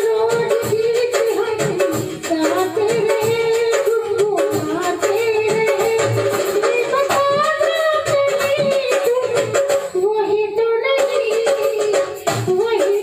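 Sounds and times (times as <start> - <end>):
instrumental backing music: 0.0 - 13.0.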